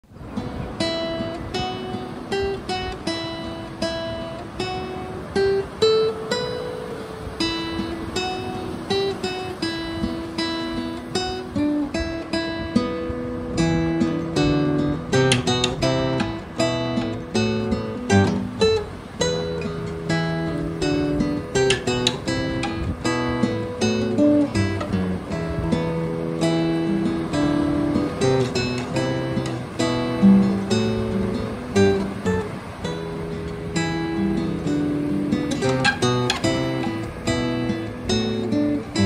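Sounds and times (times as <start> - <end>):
acoustic guitar music: 0.0 - 39.0.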